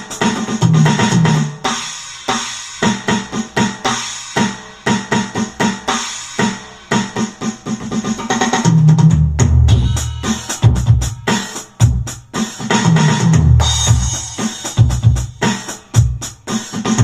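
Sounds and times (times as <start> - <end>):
electronic drum beat: 0.0 - 17.0.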